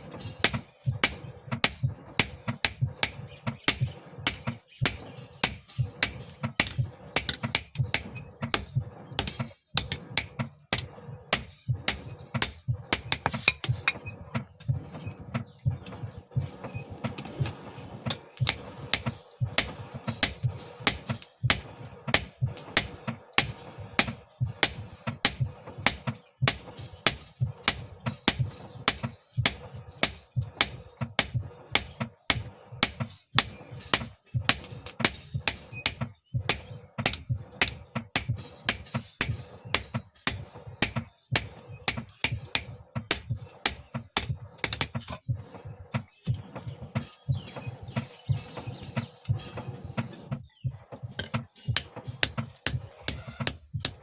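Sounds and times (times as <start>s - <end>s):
hammer striking steel on anvil: 0.0s - 14.4s, 18.4s - 45.2s, 51.1s - 54.0s.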